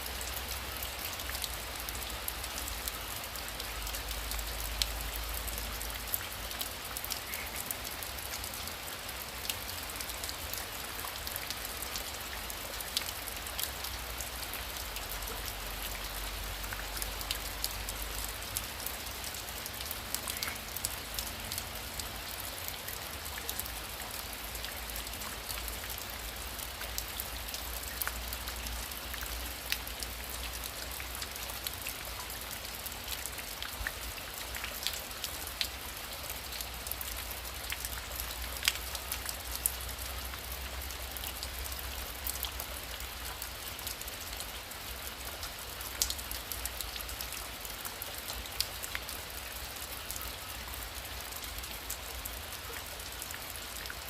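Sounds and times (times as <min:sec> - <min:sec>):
raindrops ticking: 0:00.0 - 0:54.0.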